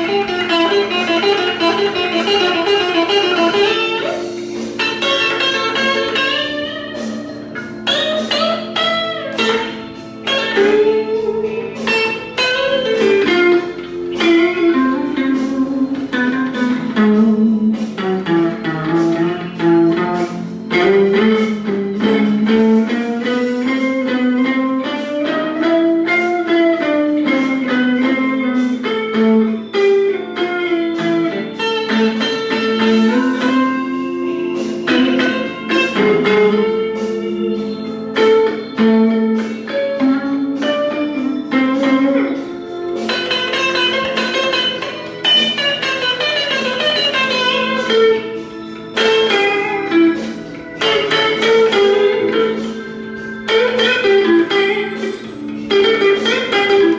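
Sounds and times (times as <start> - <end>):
blues guitar solo: 0.0 - 56.9.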